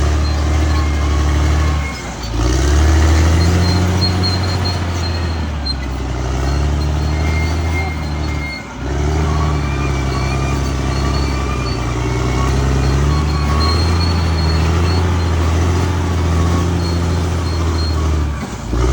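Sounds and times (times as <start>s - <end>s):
bulldozer diesel engine running: 0.0s - 18.9s.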